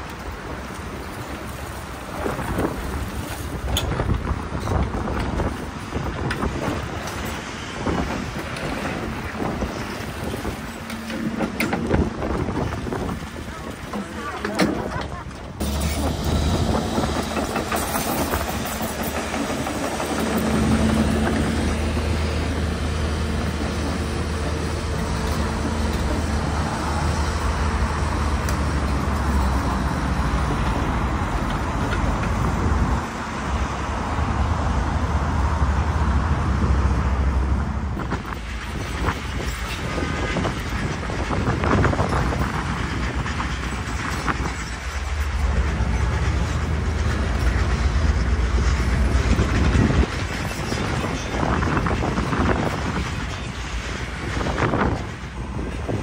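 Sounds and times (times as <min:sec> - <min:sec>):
noisy outdoor background: 0:00.0 - 0:56.0.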